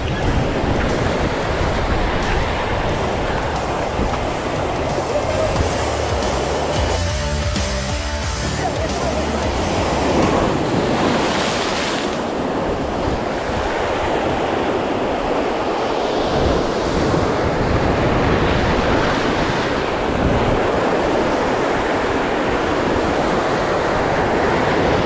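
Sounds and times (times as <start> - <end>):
wind buffeting microphone: 0.0 - 6.2, 9.7 - 25.0
waves crashing on rocks: 0.0 - 7.0, 8.4 - 25.0.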